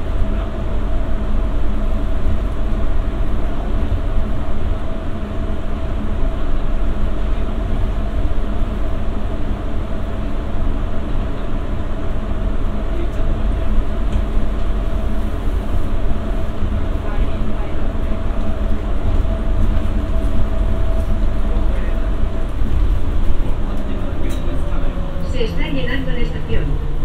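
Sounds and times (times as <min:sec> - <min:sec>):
constant hum: 0:00.0 - 0:27.0
train interior low rumble: 0:00.0 - 0:27.0.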